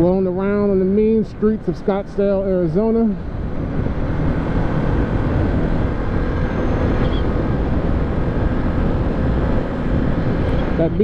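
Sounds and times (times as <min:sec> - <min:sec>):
motorcycle engine cruising: 0:00.0 - 0:11.0
wind on microphone: 0:00.0 - 0:11.0.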